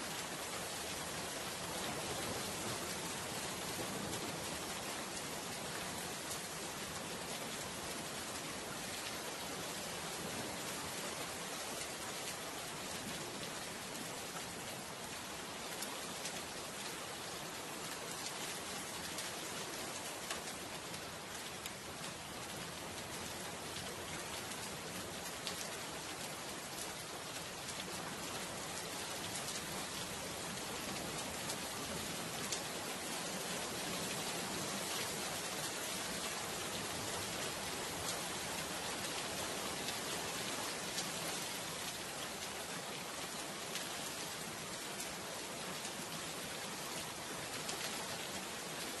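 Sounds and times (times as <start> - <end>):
rain hiss: 0.0 - 49.0.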